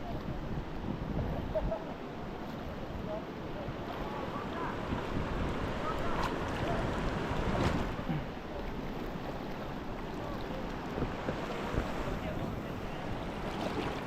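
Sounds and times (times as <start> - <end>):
river rushing: 1.9 - 14.0.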